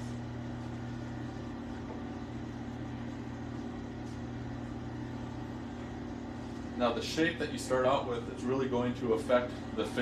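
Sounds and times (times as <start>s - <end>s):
potter's wheel motor humming: 0.0s - 10.0s.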